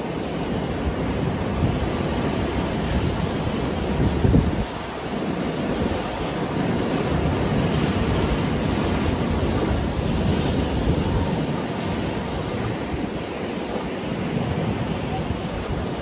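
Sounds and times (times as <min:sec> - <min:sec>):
waves breaking on rocks: 0:00.0 - 0:16.0.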